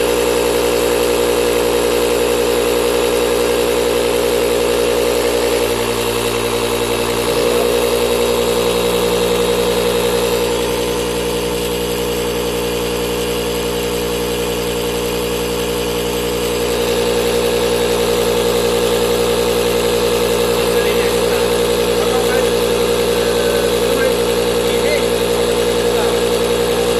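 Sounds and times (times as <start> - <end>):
electric air pump humming: 0.0 - 26.9.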